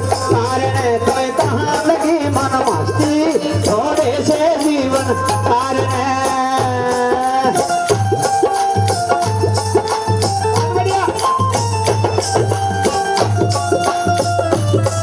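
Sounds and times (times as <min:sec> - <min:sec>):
low hand drum beat: 0:00.0 - 0:15.0.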